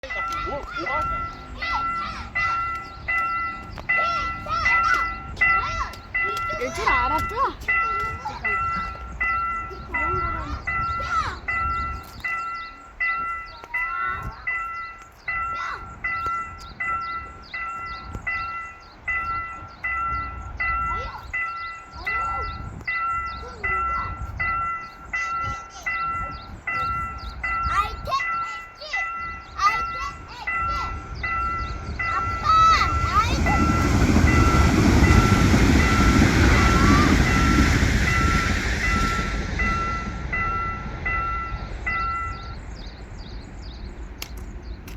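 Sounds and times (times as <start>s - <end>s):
level crossing warning bell: 0.0s - 44.0s
low rumble of train: 0.0s - 44.9s.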